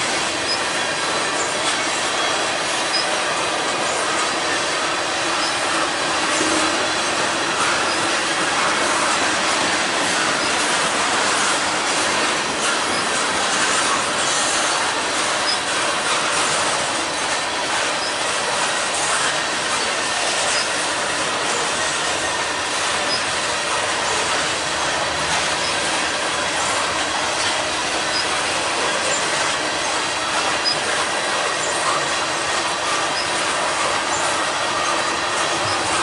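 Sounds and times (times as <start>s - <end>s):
train wheels rolling on rails: 0.0s - 36.0s.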